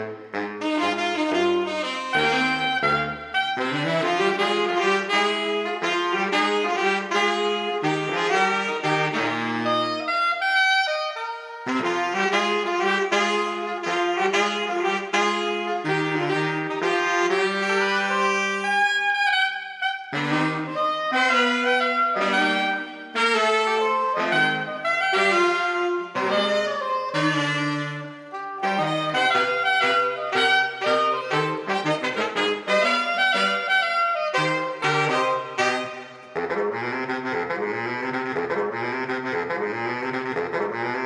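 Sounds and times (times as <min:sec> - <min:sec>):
saxophone quartet playing jazz: 0:00.0 - 0:41.0.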